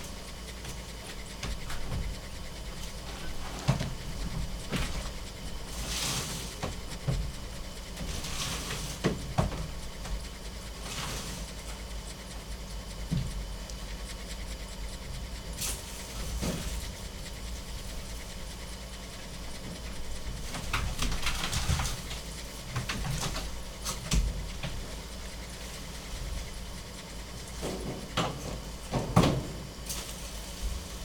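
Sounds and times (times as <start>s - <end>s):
dog breathing and sniffing: 0.0s - 28.8s
steady low hum: 0.0s - 31.0s.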